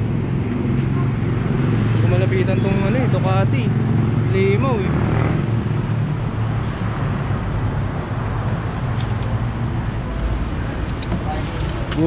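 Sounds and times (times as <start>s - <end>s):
street traffic: 0.0s - 12.0s
vehicle engines humming: 0.0s - 12.0s.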